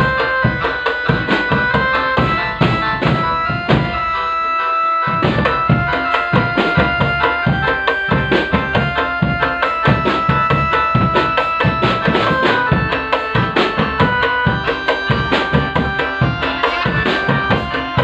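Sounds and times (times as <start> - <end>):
drums beating: 0.0 - 18.0
sustained melody: 0.0 - 18.0.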